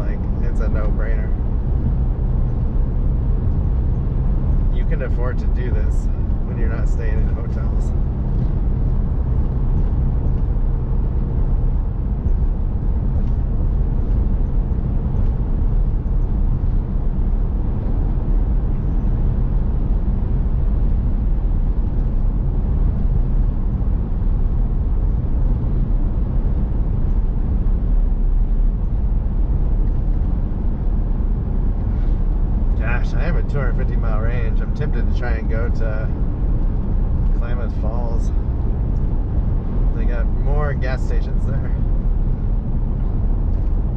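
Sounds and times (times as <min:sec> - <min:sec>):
engine hum: 0:00.0 - 0:43.9.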